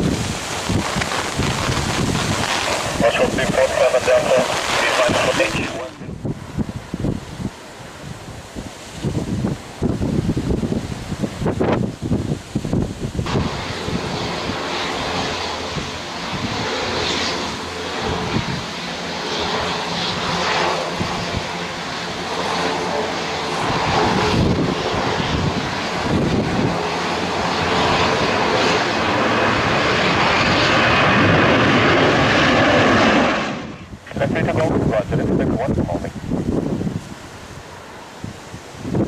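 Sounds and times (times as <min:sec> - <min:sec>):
airliner engines rushing: 0:00.0 - 0:39.0.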